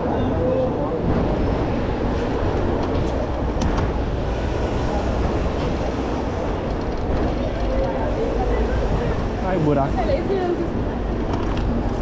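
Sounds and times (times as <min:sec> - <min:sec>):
bike tyres rolling on asphalt: 0:01.3 - 0:12.0.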